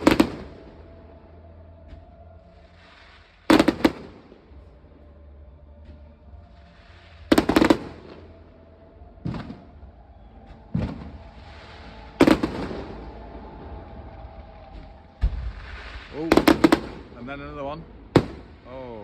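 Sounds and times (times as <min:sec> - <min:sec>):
fireworks exploding: 0:00.0 - 0:04.7, 0:06.5 - 0:08.6, 0:09.2 - 0:19.0.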